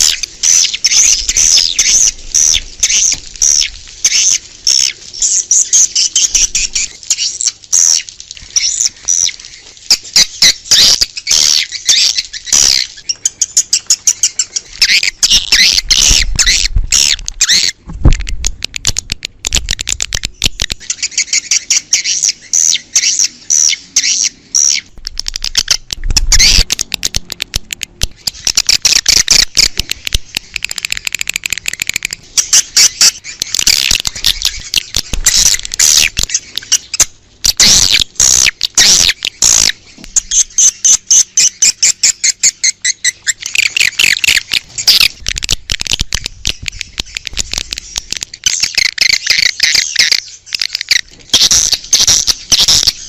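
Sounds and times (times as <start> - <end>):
swiftlets chirping and twittering: 0.0 - 17.8, 19.5 - 53.0.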